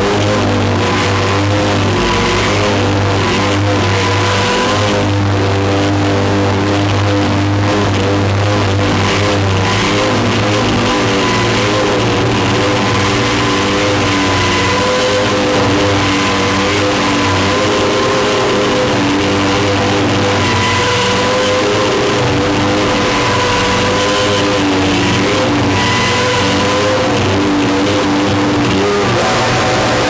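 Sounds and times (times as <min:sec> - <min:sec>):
loud noisy instrument drone: 0:00.0 - 0:30.0.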